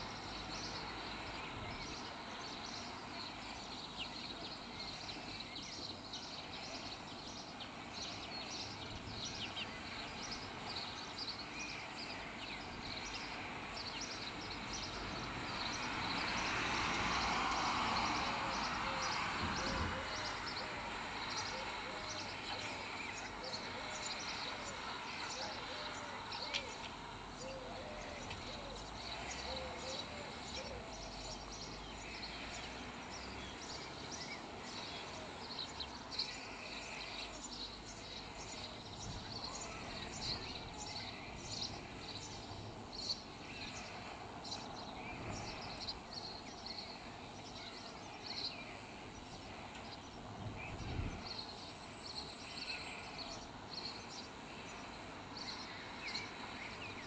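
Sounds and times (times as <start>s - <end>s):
outdoor background hiss: 0.0s - 57.0s
small songbirds chirping: 0.0s - 57.0s.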